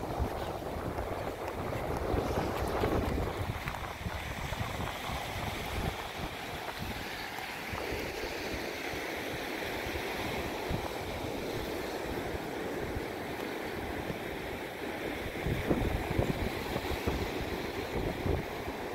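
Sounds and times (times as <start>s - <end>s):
ocean surf breaking: 0.0s - 18.9s
wind buffeting microphone: 0.0s - 18.9s.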